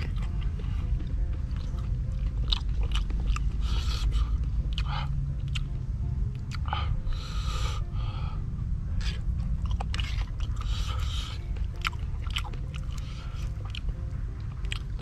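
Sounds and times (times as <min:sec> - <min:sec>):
person chewing: 0:00.0 - 0:07.9, 0:09.0 - 0:15.0
low rumble: 0:00.0 - 0:15.0.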